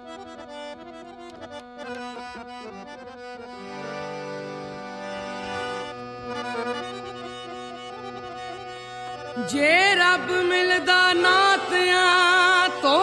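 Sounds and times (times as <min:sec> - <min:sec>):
harmonium chords over drone: 0:00.0 - 0:13.0.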